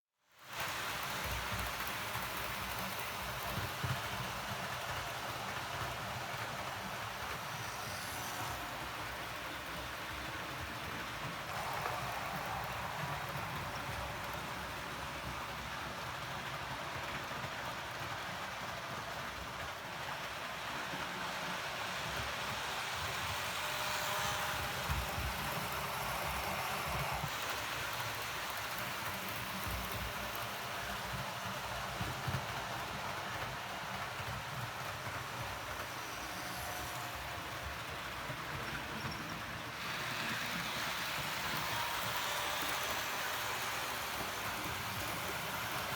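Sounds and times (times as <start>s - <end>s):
model train rolling hiss: 0.3s - 45.9s.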